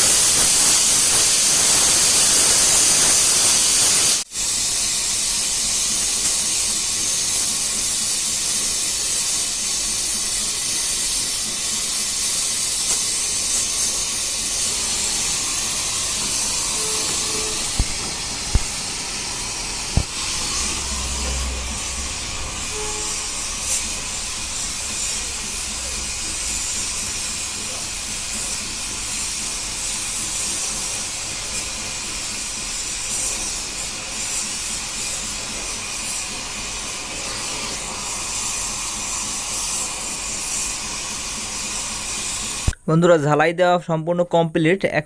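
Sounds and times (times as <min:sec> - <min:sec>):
welding arc hissing: 0:00.0 - 0:42.8.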